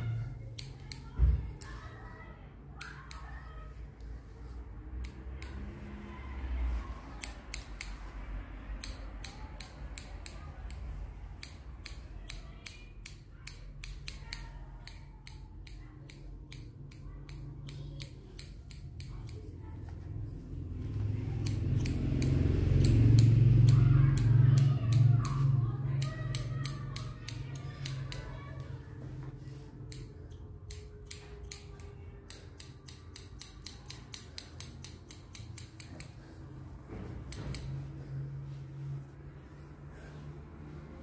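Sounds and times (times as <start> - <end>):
scissors snipping hair: 0.0 - 2.0, 2.6 - 38.3.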